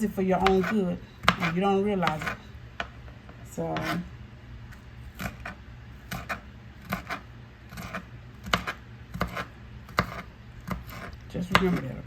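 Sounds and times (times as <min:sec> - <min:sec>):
knife chopping on cutting board: 0:00.4 - 0:03.0, 0:03.7 - 0:04.0, 0:05.1 - 0:12.0.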